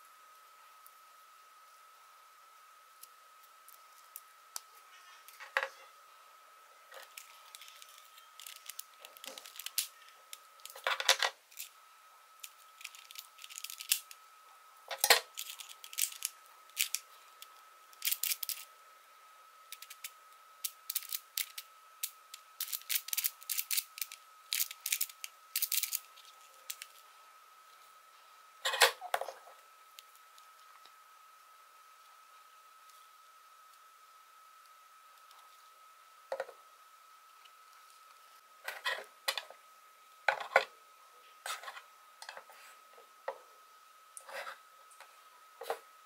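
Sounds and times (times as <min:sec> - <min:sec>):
faint high whine: 0:00.0 - 0:46.0.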